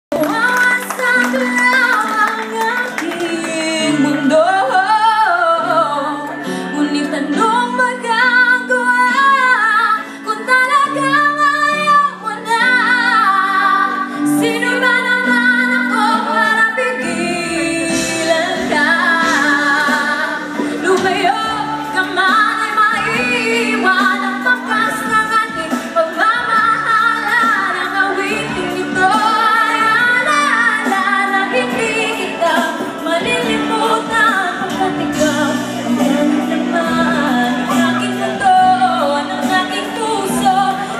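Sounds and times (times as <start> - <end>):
woman singing into microphone: 0.1 - 40.9.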